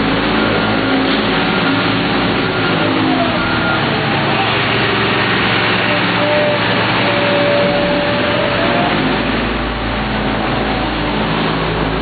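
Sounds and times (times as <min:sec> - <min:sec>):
machine whine: 0:00.0 - 0:12.0
paving machinery engines: 0:00.0 - 0:12.0.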